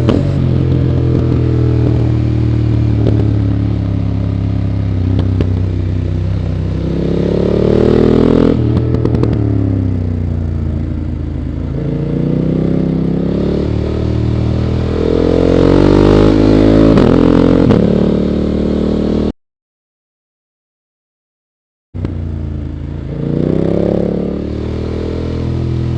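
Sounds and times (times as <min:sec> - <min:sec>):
motorcycle engine revving: 0:00.0 - 0:19.3, 0:22.0 - 0:25.9.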